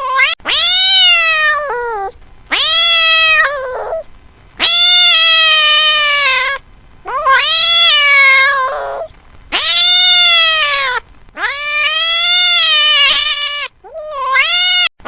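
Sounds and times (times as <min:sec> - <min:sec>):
cat meowing: 0:00.0 - 0:14.9.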